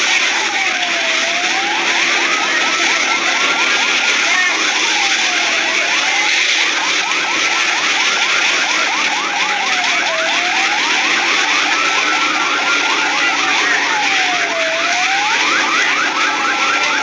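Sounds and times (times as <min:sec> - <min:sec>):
siren wailing: 0:00.0 - 0:17.0
siren yelping: 0:00.0 - 0:17.0.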